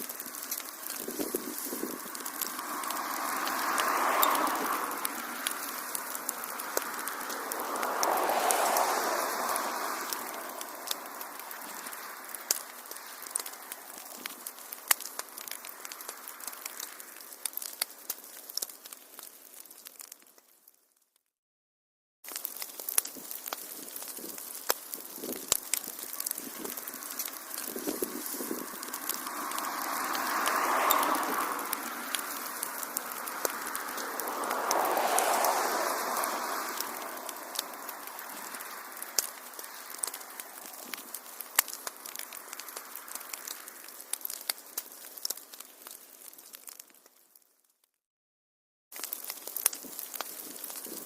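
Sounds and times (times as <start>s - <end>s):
hissing rush of flames: 0.0s - 20.4s, 22.3s - 47.0s, 49.0s - 51.0s
wood fire crackling and popping: 0.0s - 21.1s, 22.2s - 47.8s, 48.9s - 51.0s.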